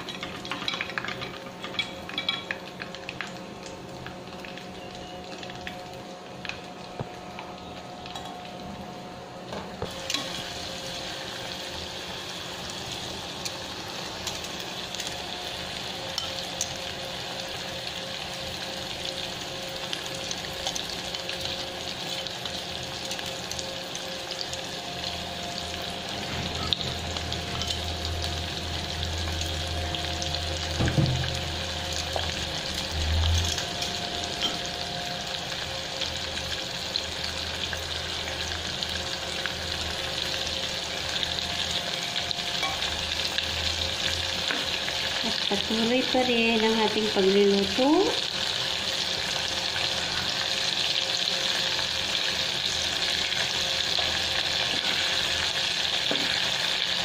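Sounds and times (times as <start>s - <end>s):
liver deep-frying in bubbling oil: 0.0s - 57.0s.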